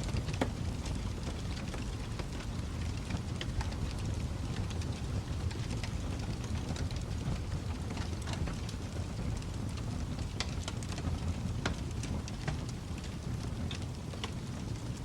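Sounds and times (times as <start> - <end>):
fire flames rumbling: 0.0 - 15.0
wood fire pops and snaps: 0.0 - 15.0.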